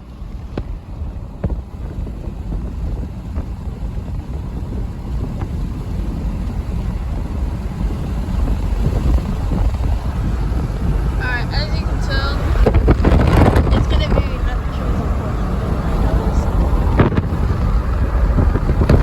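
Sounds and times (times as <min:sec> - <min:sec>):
diesel locomotives idling: 0:00.0 - 0:19.0
wind buffeting microphone: 0:00.0 - 0:19.0.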